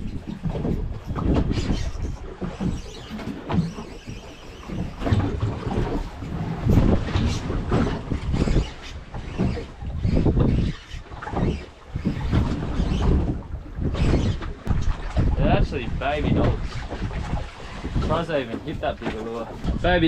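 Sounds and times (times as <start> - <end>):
water slapping boat hull: 0.0 - 20.0
wind buffeting microphone: 0.0 - 20.0.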